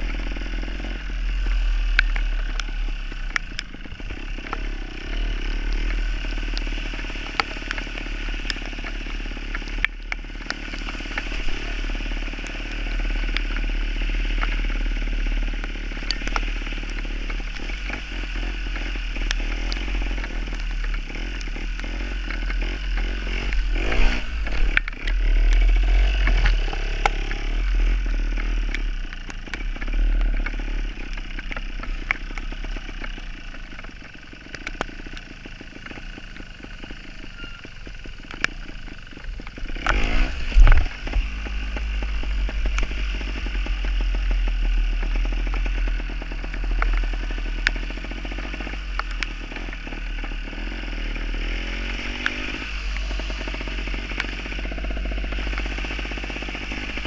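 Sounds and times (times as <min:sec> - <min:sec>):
motorcycle two-stroke engine revving: 0:00.0 - 0:57.0.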